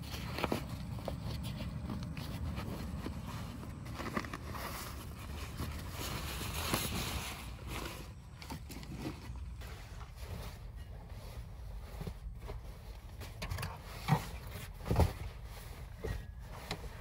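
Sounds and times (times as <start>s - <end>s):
nylon sack rustling: 0.0s - 17.0s.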